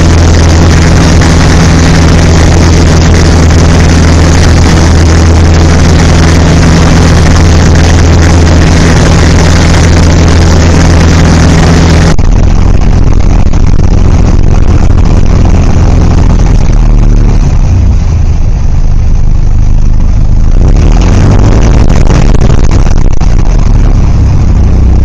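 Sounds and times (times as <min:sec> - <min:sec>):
propeller aircraft engine droning: 0:00.0 - 0:25.0.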